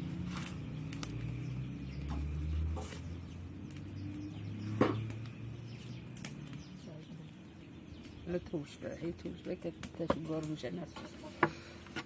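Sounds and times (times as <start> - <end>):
birds chirping: 0.0 - 12.0
wood fire crackling: 0.0 - 12.0.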